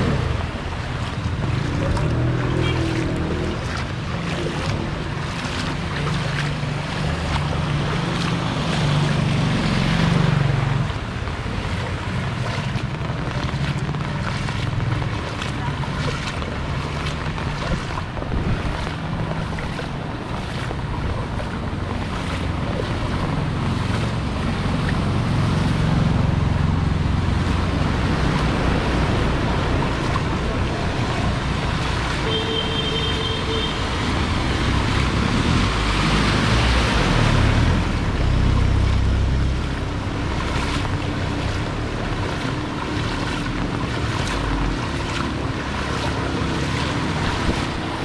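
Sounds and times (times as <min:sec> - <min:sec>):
vehicle engines running: 0:00.0 - 0:48.0
wheels splashing through water: 0:00.0 - 0:48.0.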